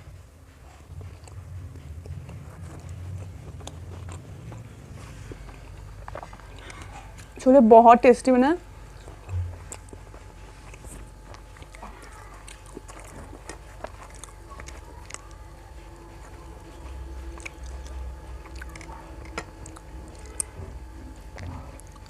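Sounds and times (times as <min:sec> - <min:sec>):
person chewing food: 0:00.0 - 0:07.4, 0:08.7 - 0:22.0.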